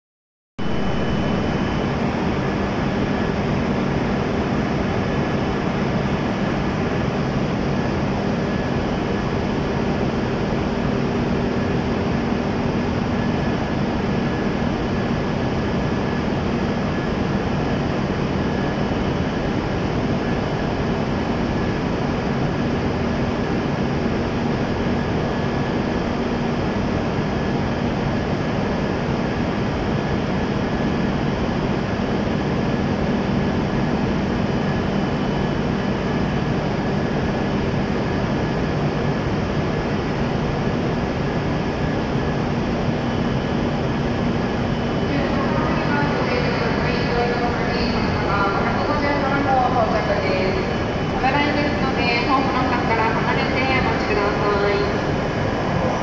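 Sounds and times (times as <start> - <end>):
train humming at platform: 0.6 - 56.0.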